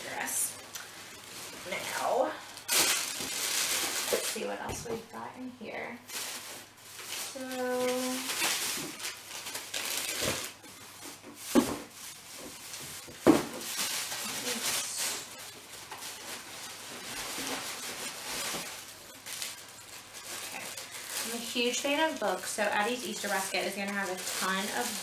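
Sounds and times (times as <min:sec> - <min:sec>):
plastic bags rustling: 0:00.0 - 0:25.0.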